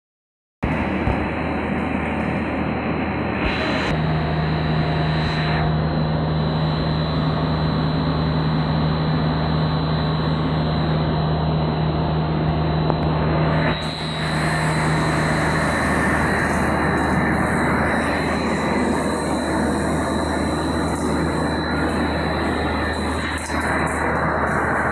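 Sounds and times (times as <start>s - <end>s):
machinery drone: 0.6s - 24.9s
steady hum: 0.6s - 24.9s.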